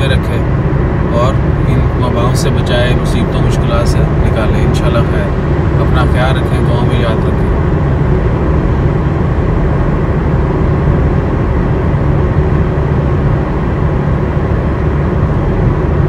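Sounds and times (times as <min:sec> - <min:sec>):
road and engine noise in car: 0:00.0 - 0:16.0.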